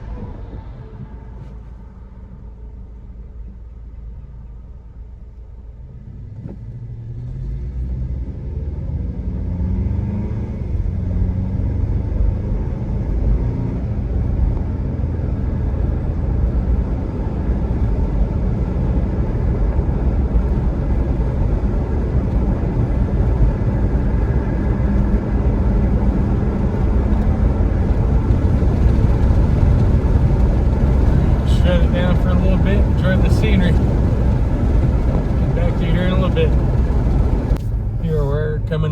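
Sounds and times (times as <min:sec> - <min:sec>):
car engine accelerating: 0:00.0 - 0:38.9
road rumble: 0:00.0 - 0:38.9.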